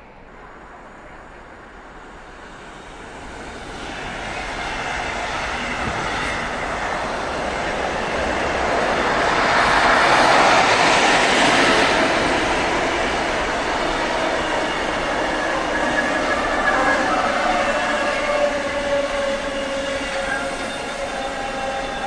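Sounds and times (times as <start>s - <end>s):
train wheels on rails: 0.2s - 22.0s.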